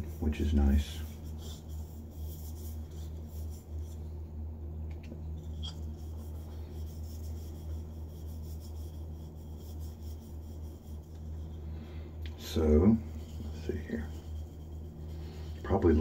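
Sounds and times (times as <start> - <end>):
hand rubbing wooden bowl: 0.0 - 4.1, 5.3 - 11.8, 12.4 - 16.0
low hum: 0.0 - 16.0.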